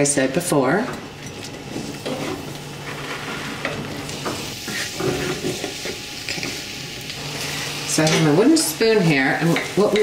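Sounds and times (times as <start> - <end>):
eggplant sizzling in hot oil: 1.9 - 10.0.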